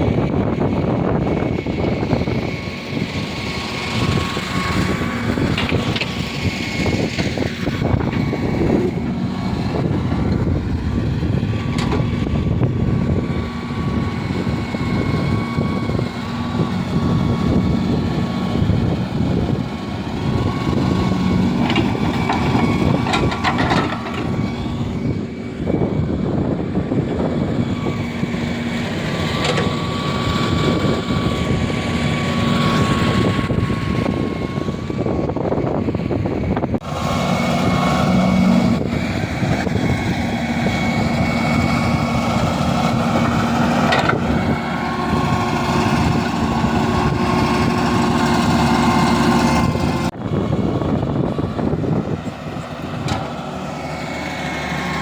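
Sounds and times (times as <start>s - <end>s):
diesel engine rumbling: 0.0s - 55.0s
steady whine: 0.0s - 55.0s.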